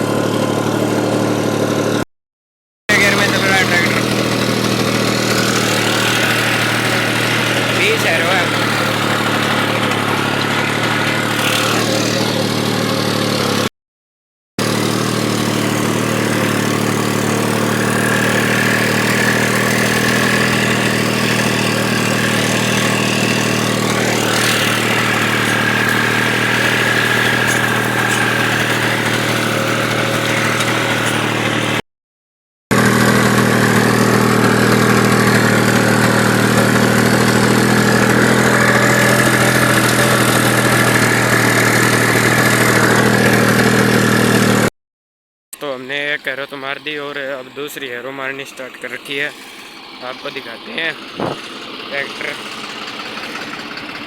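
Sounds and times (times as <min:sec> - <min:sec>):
tractor diesel engine under load: 0:00.0 - 0:02.1, 0:02.9 - 0:13.7, 0:14.6 - 0:31.8, 0:32.7 - 0:44.7, 0:45.6 - 0:54.0.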